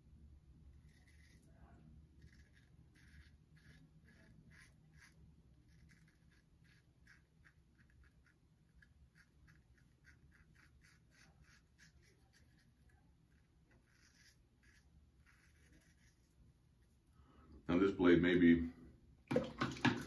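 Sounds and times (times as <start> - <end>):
razor scraping beard stubble: 0.7 - 17.0.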